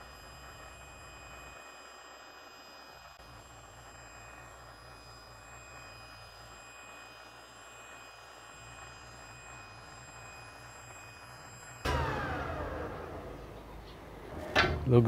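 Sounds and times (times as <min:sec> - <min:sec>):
table saw running: 0:00.0 - 0:15.0.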